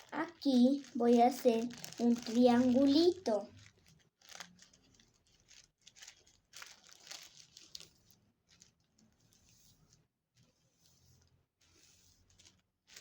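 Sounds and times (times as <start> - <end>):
tissue paper rustling: 0.0 - 13.0.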